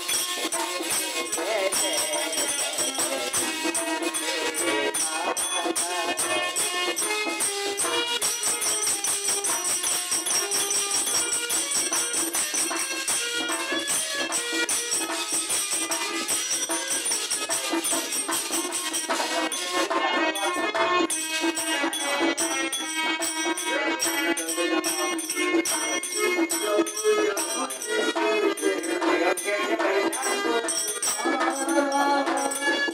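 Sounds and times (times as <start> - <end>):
dholak drum beating: 0.0 - 32.9
jingling percussion: 0.0 - 32.9.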